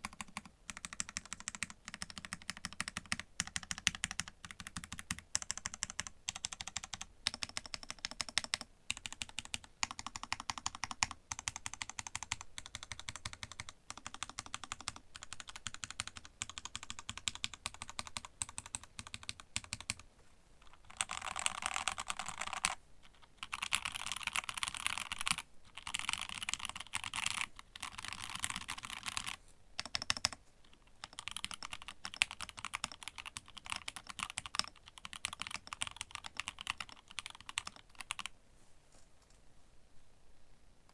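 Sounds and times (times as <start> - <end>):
mechanical keyboard typing: 0.0 - 20.0, 20.6 - 38.3.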